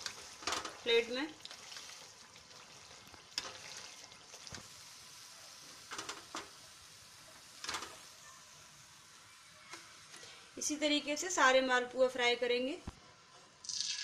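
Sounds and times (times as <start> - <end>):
ghee sizzling faintly: 0.0 - 14.0.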